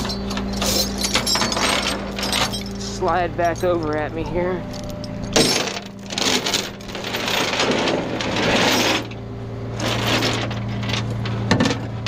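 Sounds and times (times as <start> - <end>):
chain rattling and clanking: 0.0 - 9.2, 9.8 - 12.0
steady low hum: 0.0 - 12.0.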